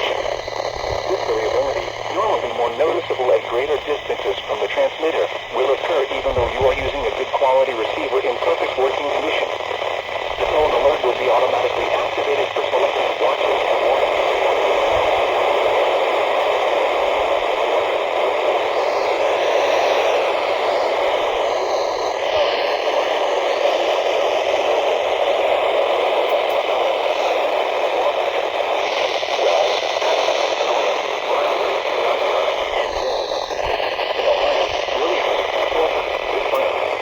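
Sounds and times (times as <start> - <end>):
radio static hiss: 0.0 - 37.0.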